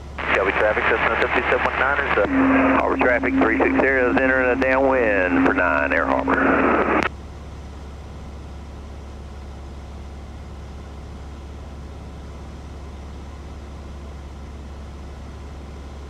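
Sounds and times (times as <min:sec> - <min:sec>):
airplane engine drone in cabin: 0:00.0 - 0:16.0.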